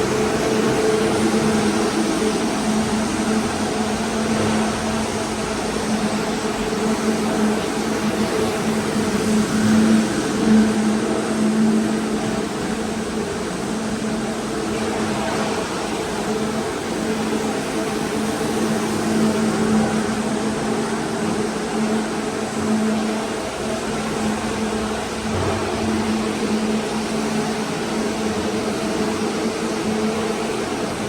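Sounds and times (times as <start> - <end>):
machine hum with rushing air: 0.0 - 31.0.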